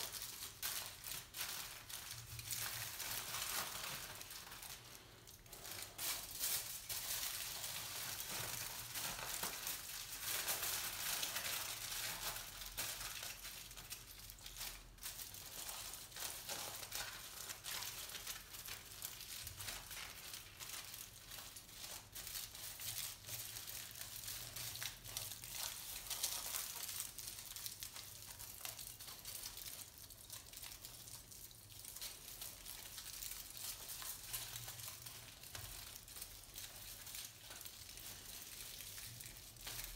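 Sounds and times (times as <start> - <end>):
aluminium foil crinkling: 0.0 - 39.9.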